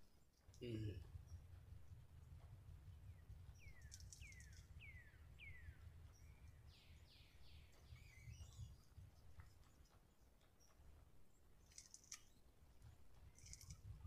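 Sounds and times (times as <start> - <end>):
low steady rumble: 0.0 - 11.5.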